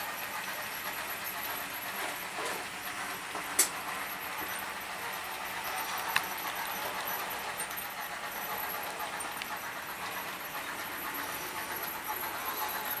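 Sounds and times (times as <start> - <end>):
model train wheels on rail: 0.0 - 13.0.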